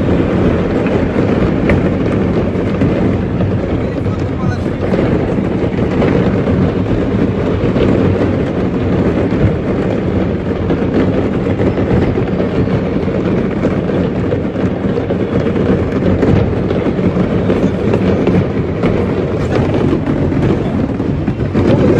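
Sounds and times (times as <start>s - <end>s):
fireworks crackling and banging: 0.0s - 21.9s.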